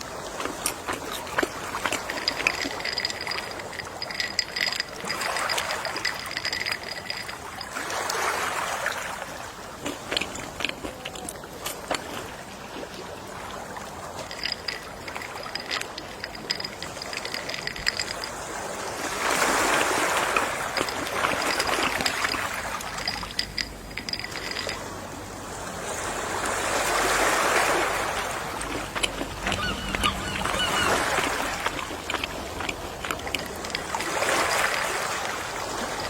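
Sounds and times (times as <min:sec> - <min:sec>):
sea waves washing onto shore: 0:00.0 - 0:36.0.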